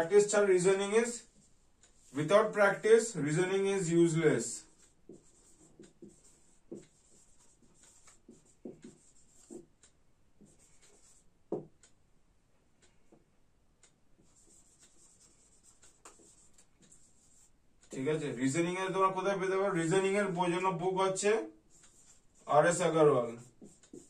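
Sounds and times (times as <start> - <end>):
marker strokes on whiteboard: 0.0 - 11.9, 13.8 - 24.0.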